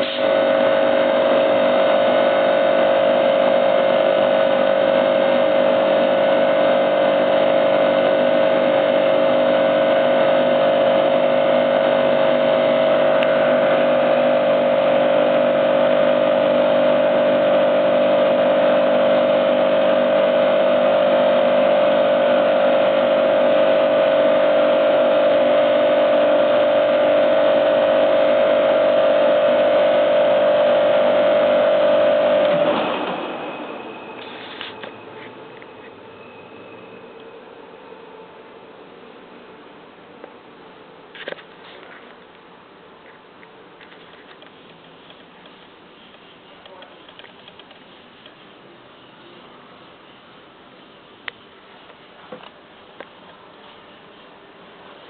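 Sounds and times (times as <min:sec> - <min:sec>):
air compressor humming: 0:00.0 - 0:55.0.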